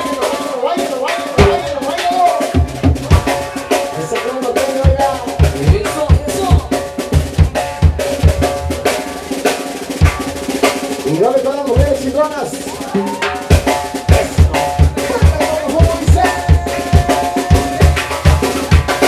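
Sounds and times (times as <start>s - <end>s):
live band playing dance music: 0.0s - 19.0s
kick and snare drum beat: 1.1s - 19.0s.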